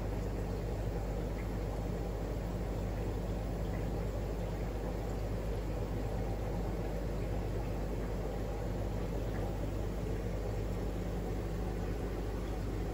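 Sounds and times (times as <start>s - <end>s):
aquarium equipment humming: 0.0s - 12.9s.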